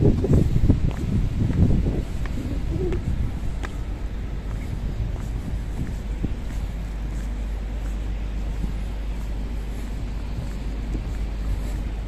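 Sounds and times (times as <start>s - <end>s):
city traffic noise: 0.0s - 12.0s
wind on microphone: 0.0s - 12.0s.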